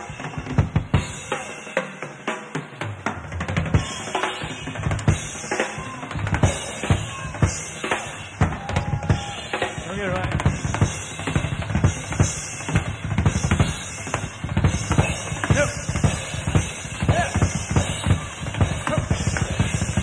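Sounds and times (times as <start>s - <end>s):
drum kit solo: 0.0s - 20.0s.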